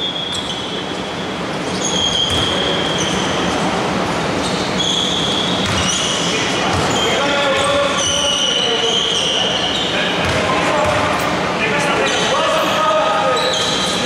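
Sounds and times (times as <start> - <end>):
high squeals: 0.0 - 3.7, 4.3 - 10.2, 12.0 - 14.0.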